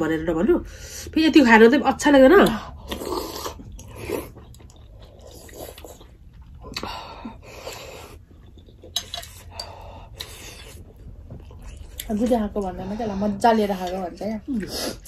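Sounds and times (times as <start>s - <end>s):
people chewing: 2.3s - 15.0s.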